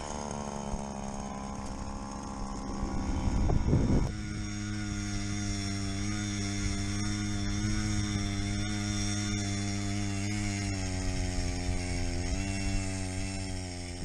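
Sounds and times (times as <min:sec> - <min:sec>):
motor running steadily: 0:00.0 - 0:14.0.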